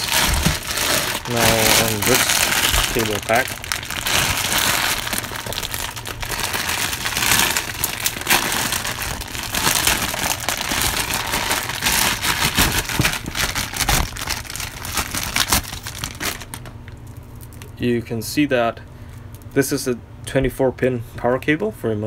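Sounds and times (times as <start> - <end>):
plastic packaging crinkling: 0.0 - 17.8.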